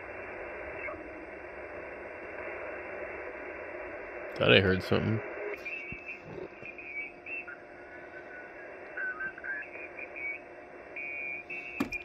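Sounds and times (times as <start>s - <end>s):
radio band noise hiss: 0.0s - 12.0s
short radio tone snippets: 2.0s - 12.0s.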